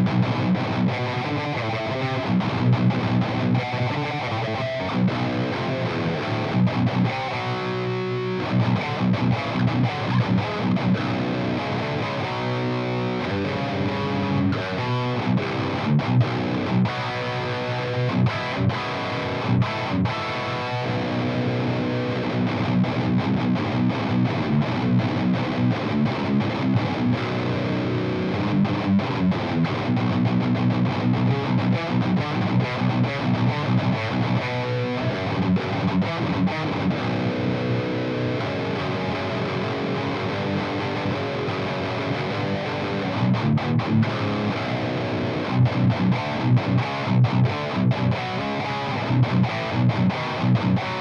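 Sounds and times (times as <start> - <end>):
distorted electric guitar riffs: 0.0 - 51.0.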